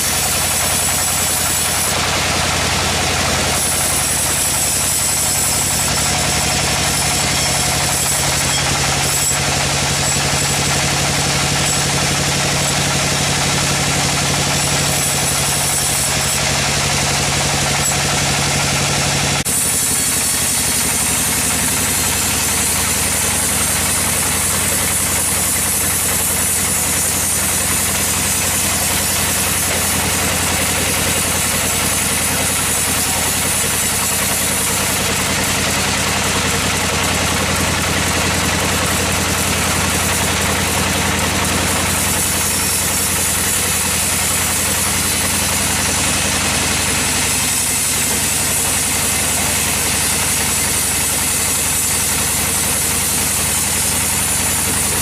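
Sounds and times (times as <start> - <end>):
sawmill engine drone: 0.0 - 55.0.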